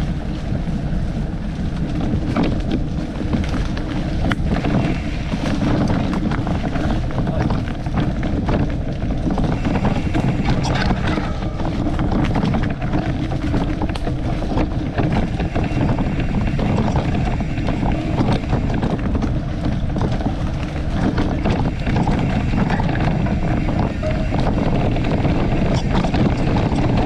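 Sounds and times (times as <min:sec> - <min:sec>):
light ticks and rattles: 0:00.0 - 0:27.0
wind buffeting microphone: 0:00.0 - 0:27.0.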